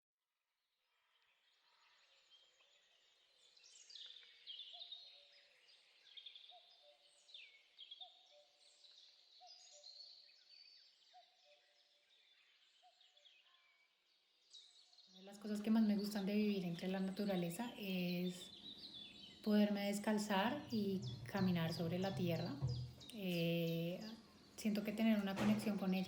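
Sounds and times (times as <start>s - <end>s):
birds chirping: 1.1s - 26.0s.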